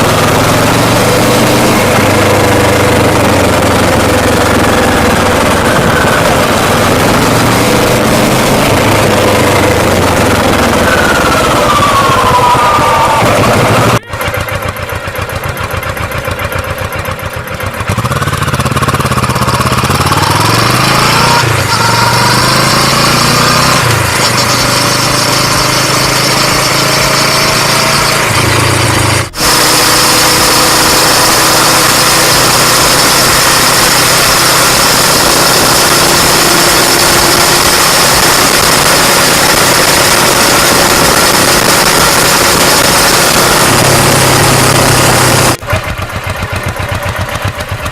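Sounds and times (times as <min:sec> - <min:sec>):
motorcycle engine: 0:00.0 - 0:47.9.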